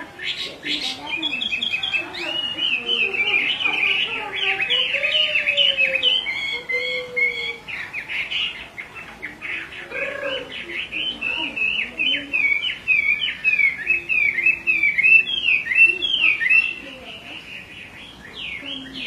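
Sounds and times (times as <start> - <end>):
laughing thrush singing: 0.0 - 19.0.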